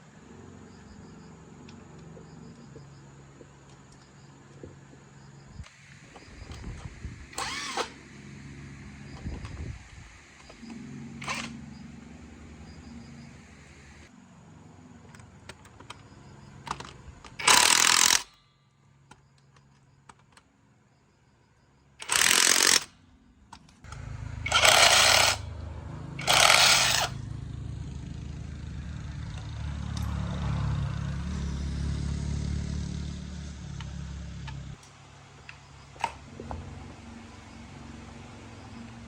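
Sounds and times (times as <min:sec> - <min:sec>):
low motor hum: 0:00.0 - 0:15.4, 0:22.0 - 0:39.0.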